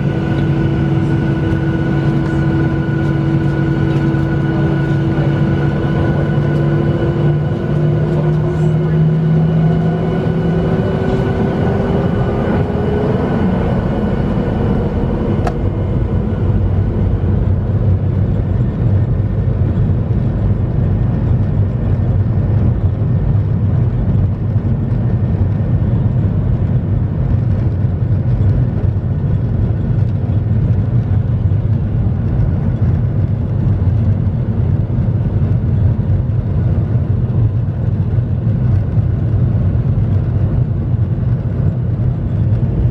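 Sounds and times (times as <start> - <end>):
jet engine whine: 0.0 - 42.9
low engine rumble: 0.0 - 42.9.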